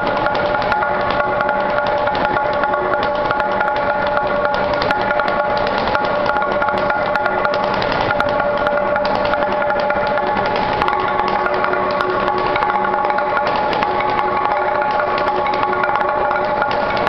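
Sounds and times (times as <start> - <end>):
rapid knocks on wooden planks: 0.0 - 17.0.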